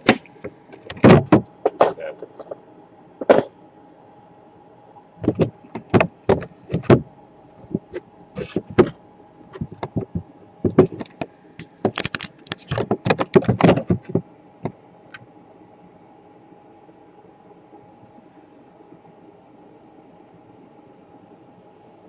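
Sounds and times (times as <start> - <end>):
faint equipment hum: 0.0 - 22.0.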